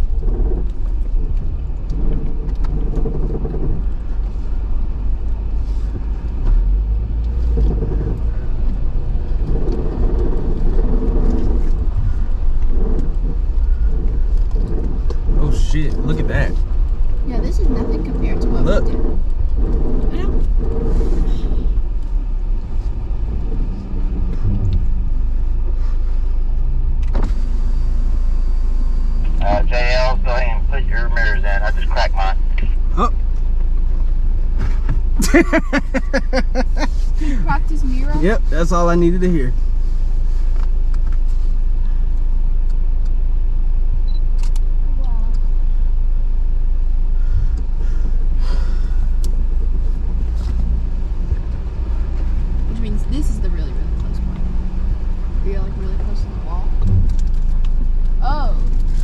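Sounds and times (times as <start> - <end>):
engine and drivetrain rumble: 0.0 - 59.0.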